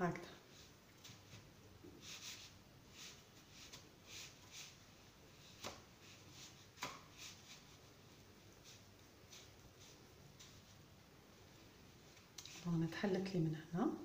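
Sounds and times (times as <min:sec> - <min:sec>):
soft rustling of seeds: 0:00.4 - 0:13.4.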